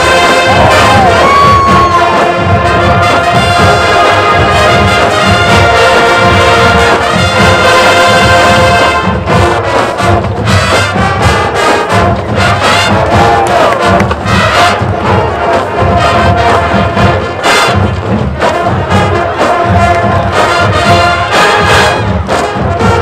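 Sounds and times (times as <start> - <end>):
drums beating rhythmically: 0.0 - 23.0
marching band brass chords: 0.0 - 23.0.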